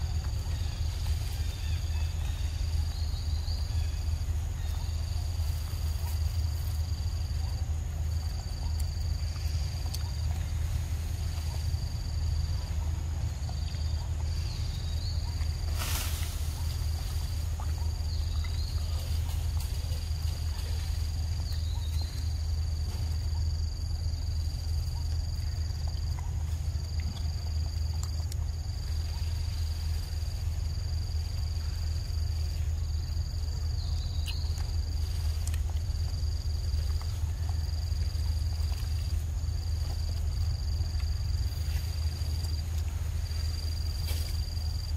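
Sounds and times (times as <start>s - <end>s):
insects trilling: 0.0s - 44.9s
steady low rumble: 0.0s - 44.9s.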